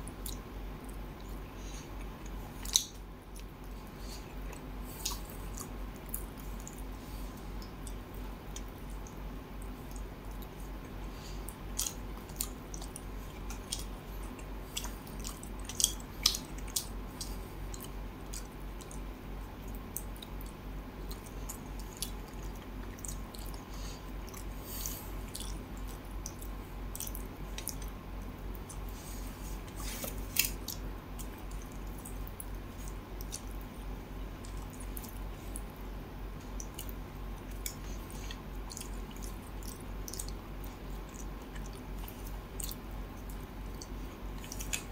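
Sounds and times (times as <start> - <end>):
wet chewing and mouth smacks: 0.1 - 28.9, 29.5 - 35.8, 36.4 - 44.9.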